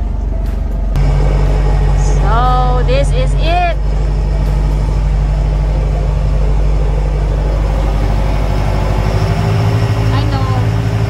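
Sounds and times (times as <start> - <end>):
boat engine drone: 0.0 - 11.0
water rushing along hull: 1.0 - 11.0.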